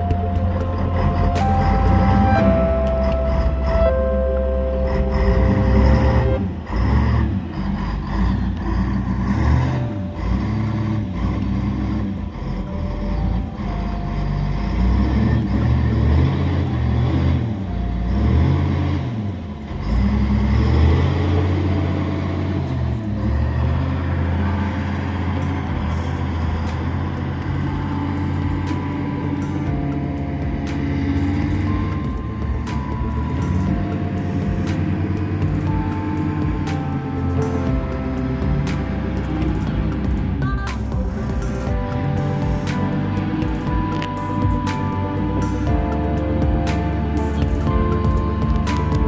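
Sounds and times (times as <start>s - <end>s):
engine revving: 0.0s - 49.0s.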